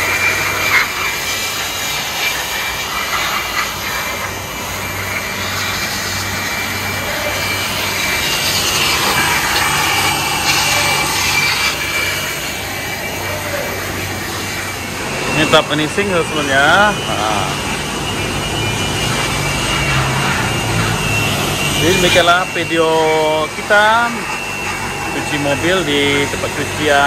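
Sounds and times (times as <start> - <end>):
electric air blower running: 0.0 - 27.0.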